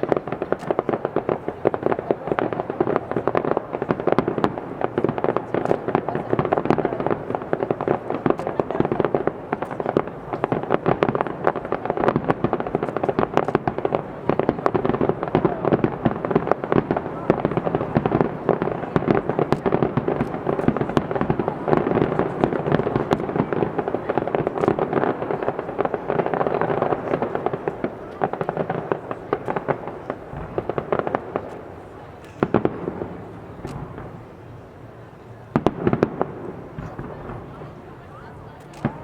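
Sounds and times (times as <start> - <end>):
fireworks crackling and popping: 0.0 - 39.0
loud firework bangs: 0.0 - 39.0.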